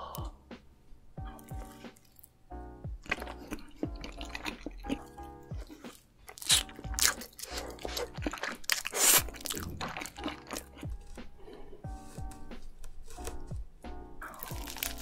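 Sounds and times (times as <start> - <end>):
soft background music with beat: 0.0 - 15.0
crunching and chewing food: 1.3 - 2.4, 3.0 - 15.0.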